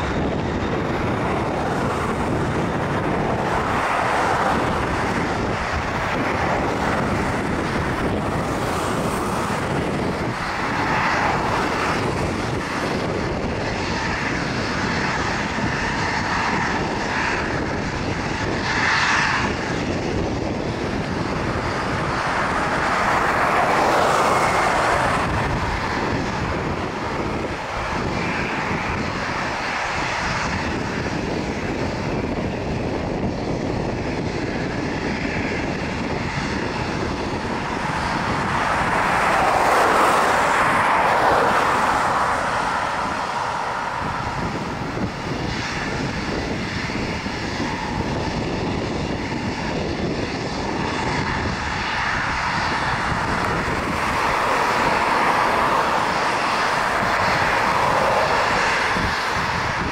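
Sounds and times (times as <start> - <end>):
jet engines droning with whine: 0.0 - 59.9.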